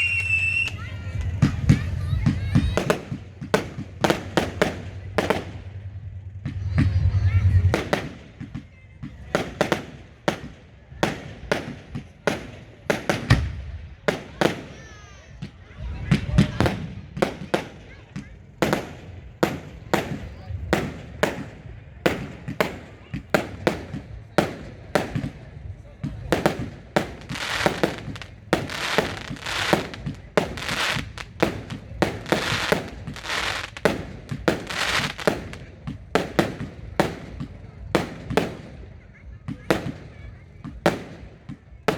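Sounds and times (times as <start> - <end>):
fireworks bangs: 0.0 - 41.9
fireworks crackling hiss: 0.0 - 41.9.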